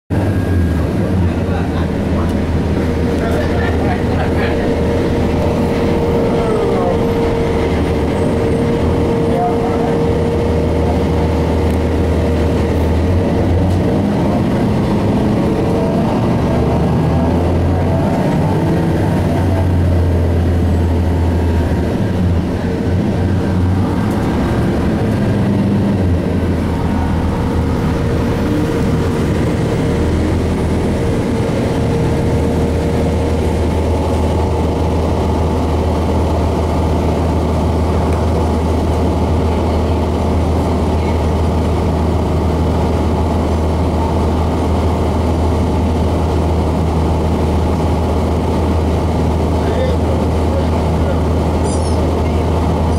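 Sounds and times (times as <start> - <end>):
bus diesel engine droning: 0.1 - 52.9.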